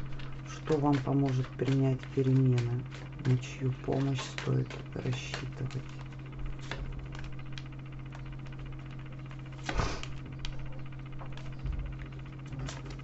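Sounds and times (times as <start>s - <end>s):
cards clicking and tapping: 0.0s - 8.9s, 9.6s - 13.0s
cards rustling: 0.0s - 13.0s
low electrical hum: 0.0s - 13.0s.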